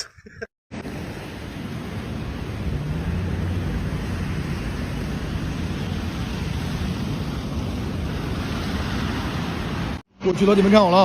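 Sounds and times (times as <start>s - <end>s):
road noise hiss: 0.7s - 11.0s
vehicle running: 1.8s - 10.8s.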